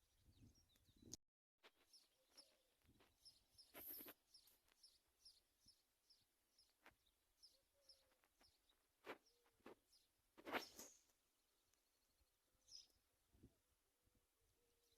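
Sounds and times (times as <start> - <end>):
faint high bird chirps: 0.0 - 13.5, 14.5 - 14.9.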